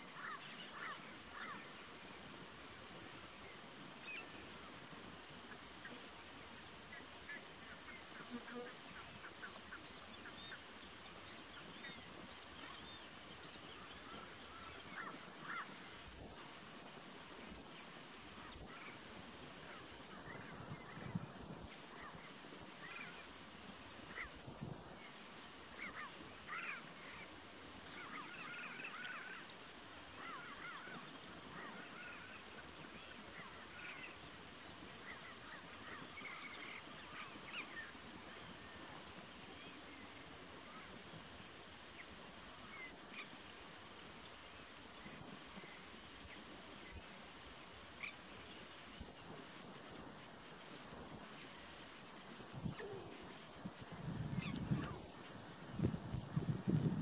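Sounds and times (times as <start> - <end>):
insect chorus pulsing: 0.0 - 57.0.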